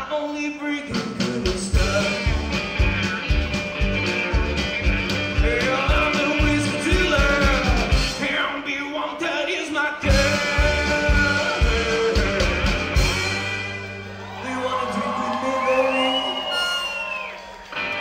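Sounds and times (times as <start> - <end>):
live rock band playing: 0.0 - 8.7, 10.0 - 18.0
drums: 0.0 - 18.0.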